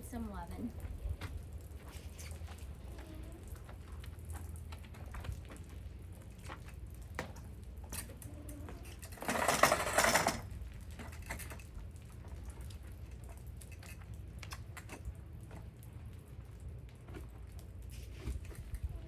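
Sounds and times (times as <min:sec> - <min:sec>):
light ticks and drips: 0:00.0 - 0:09.2, 0:10.5 - 0:19.0.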